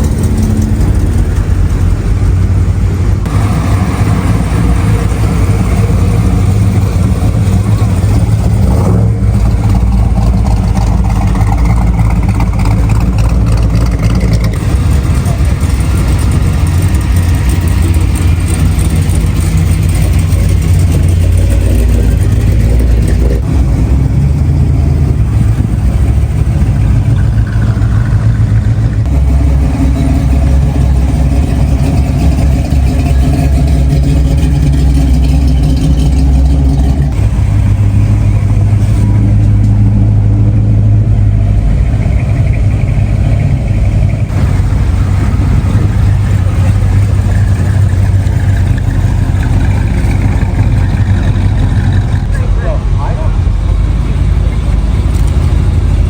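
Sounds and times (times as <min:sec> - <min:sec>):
car engines rumbling and revving: 0:00.0 - 0:56.0.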